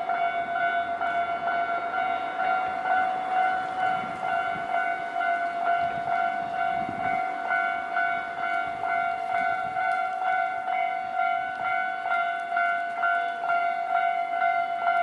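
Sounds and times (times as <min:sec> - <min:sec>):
level crossing bell clanging: 0:00.0 - 0:15.0.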